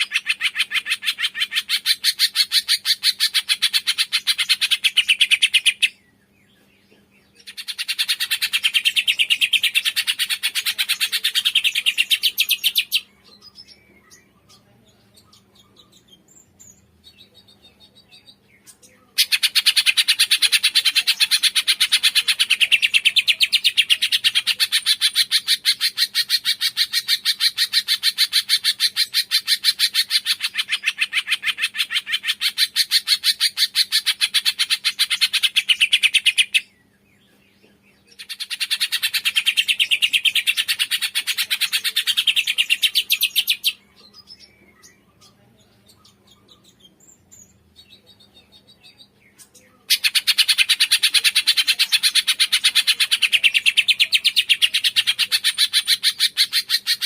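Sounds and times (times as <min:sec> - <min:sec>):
bird rapid high chirping: 0:00.0 - 0:06.3, 0:07.4 - 0:37.0, 0:38.1 - 0:57.0
faint scattered bird notes: 0:00.0 - 0:57.0.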